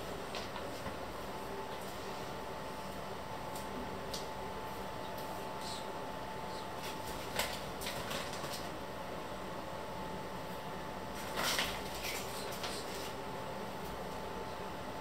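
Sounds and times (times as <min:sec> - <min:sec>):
kitchen background hum: 0:00.0 - 0:15.0.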